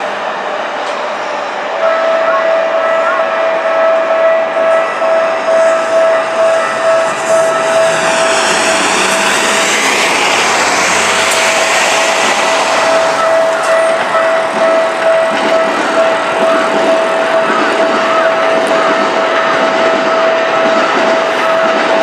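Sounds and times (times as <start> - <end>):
electric train running: 0.0 - 22.0
level-crossing warning bell ringing: 1.8 - 11.3, 12.0 - 22.0.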